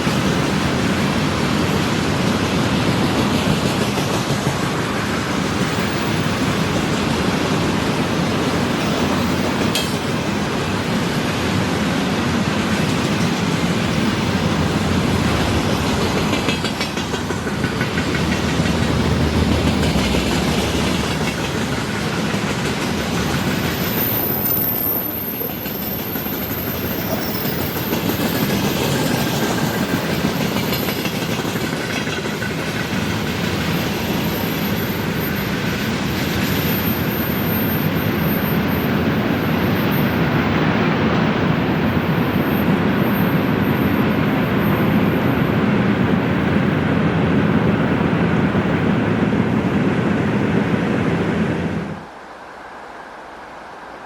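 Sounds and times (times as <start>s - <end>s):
train wheels rattling on rails: 0.0s - 52.3s.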